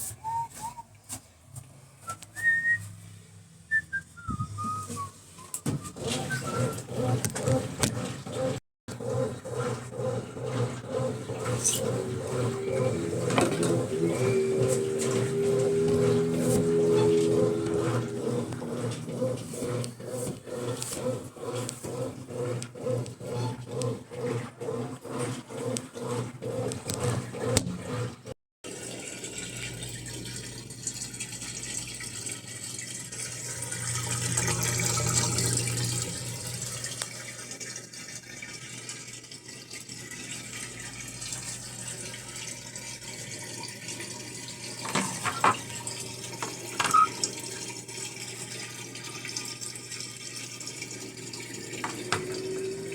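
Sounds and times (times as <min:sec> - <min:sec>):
washing machine filling with water: 0:03.7 - 0:52.9.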